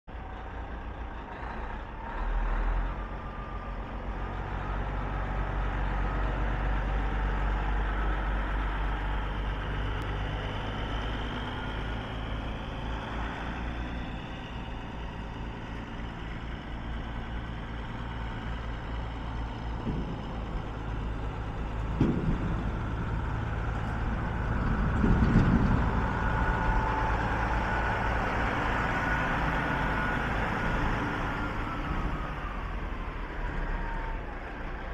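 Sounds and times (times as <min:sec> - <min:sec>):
diesel truck engine approaching: 0:00.1 - 0:34.9.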